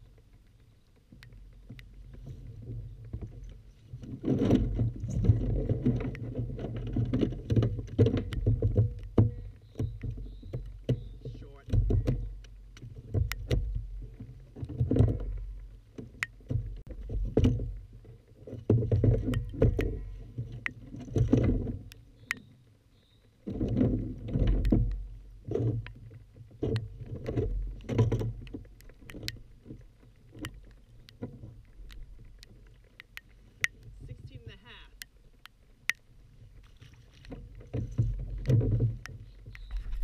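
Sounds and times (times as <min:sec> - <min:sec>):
thumps and rumbling in kayak: 0:00.0 - 0:35.4, 0:36.2 - 0:40.0
raindrops ticking on camera housing: 0:00.0 - 0:40.0.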